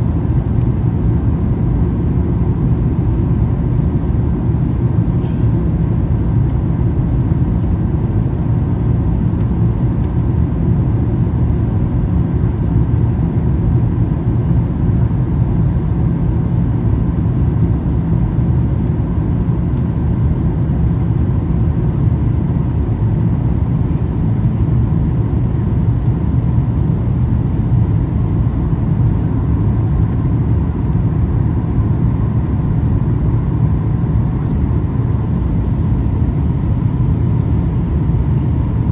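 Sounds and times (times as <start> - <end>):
airplane cabin noise: 0.0 - 38.9.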